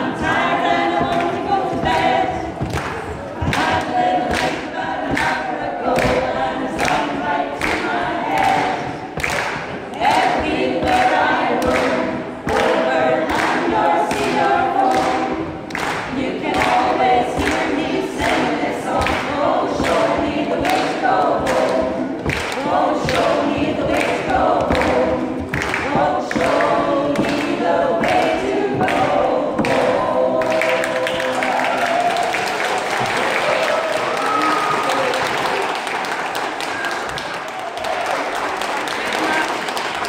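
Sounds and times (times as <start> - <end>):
choir singing unaccompanied: 0.0 - 34.2.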